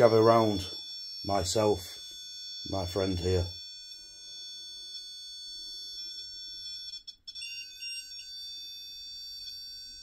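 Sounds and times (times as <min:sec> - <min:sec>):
high-pitched alarm tones: 0:00.0 - 0:10.0.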